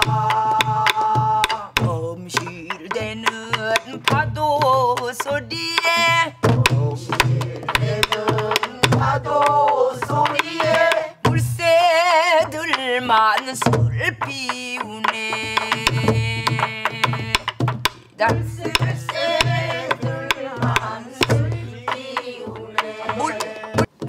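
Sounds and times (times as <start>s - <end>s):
drumstick clacking on wooden shell: 0.0s - 11.0s, 12.6s - 24.0s
group singing folk song: 0.0s - 17.6s, 18.2s - 24.0s.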